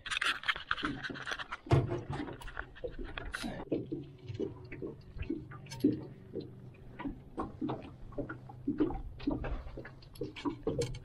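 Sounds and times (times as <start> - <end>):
light clicks and knocks: 0.0 - 11.0.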